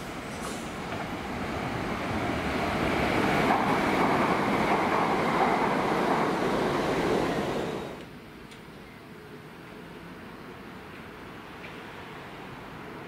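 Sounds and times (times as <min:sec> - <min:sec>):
train passing close by: 0:00.0 - 0:08.1, 0:10.4 - 0:13.0.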